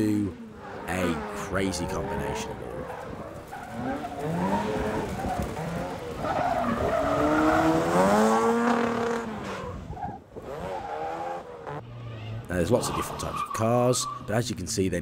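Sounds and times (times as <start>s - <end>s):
tyres skidding on tarmac: 0.0s - 14.4s.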